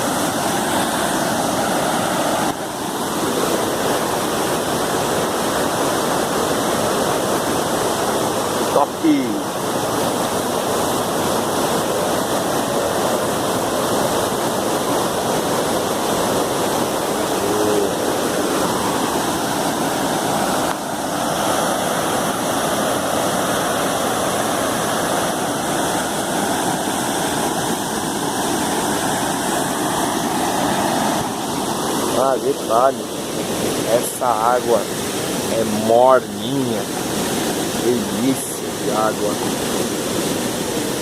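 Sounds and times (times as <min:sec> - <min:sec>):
waterfall rushing into pool: 0:00.0 - 0:41.0.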